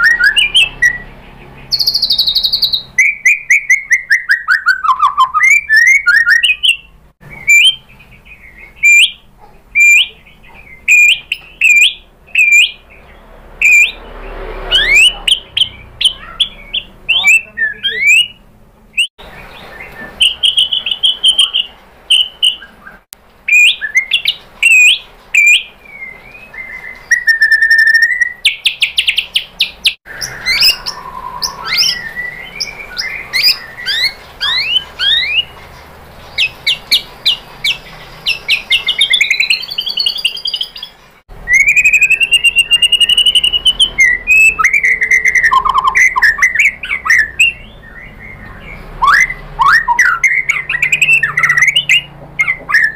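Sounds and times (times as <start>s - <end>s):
bird singing whistles and trills: 0.0s - 14.0s, 14.7s - 52.9s.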